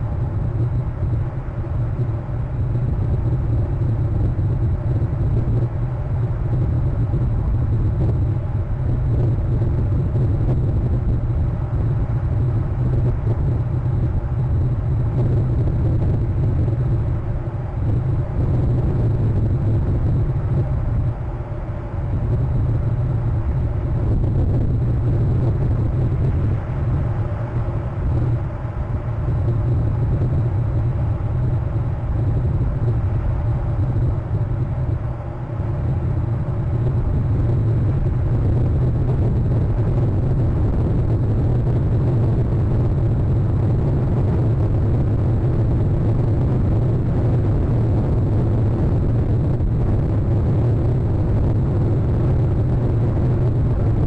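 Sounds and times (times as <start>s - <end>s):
low rumble: 0.0s - 54.0s.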